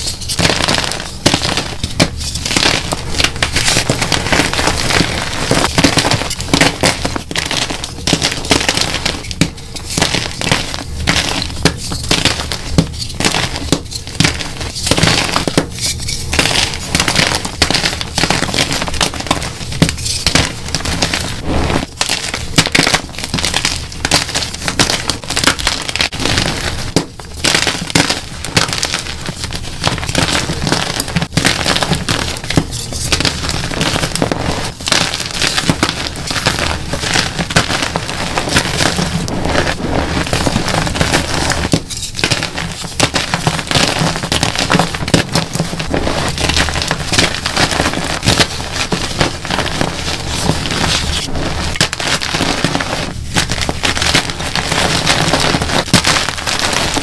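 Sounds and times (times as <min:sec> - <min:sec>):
chalk blocks crunching and crackling: 0:00.0 - 0:57.0.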